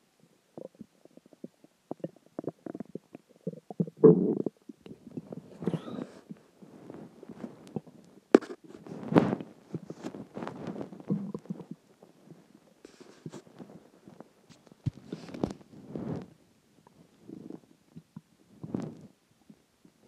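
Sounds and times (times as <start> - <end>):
stomach growling and gurgling: 0.3 - 20.0.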